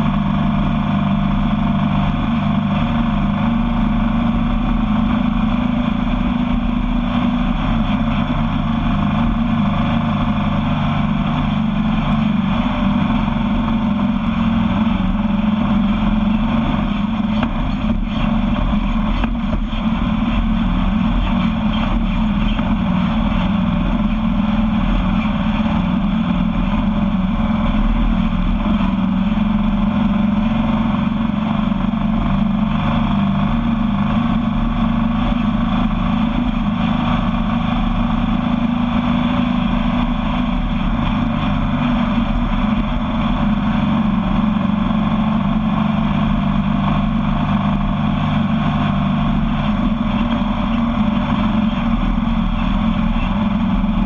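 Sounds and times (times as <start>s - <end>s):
buggy engine running: 0.0s - 54.0s.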